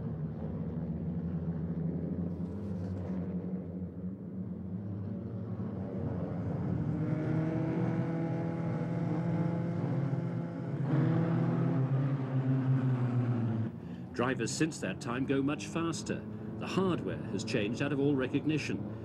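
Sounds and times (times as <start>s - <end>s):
racing car engine: 0.0s - 19.0s.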